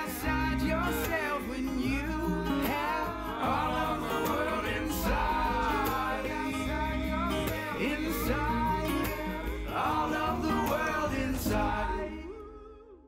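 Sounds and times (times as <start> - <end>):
country-folk band: 0.0 - 12.9
person singing: 0.0 - 13.0.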